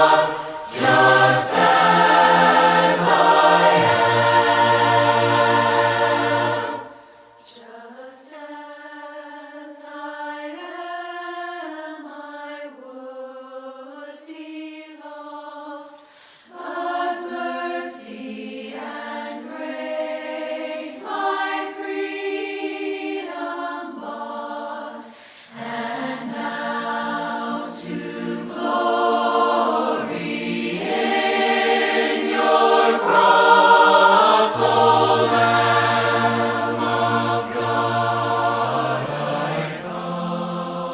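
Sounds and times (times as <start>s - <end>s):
group singing a hymn: 0.0s - 40.9s.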